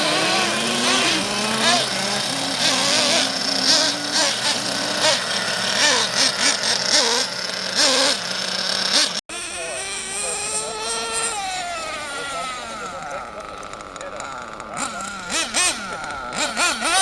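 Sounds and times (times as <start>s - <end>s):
rc truck engine revving: 0.0s - 17.0s.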